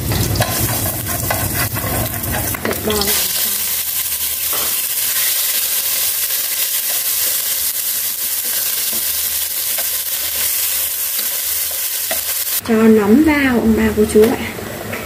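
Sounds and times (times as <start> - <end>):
beef sizzling in hot oil: 0.0 - 12.6.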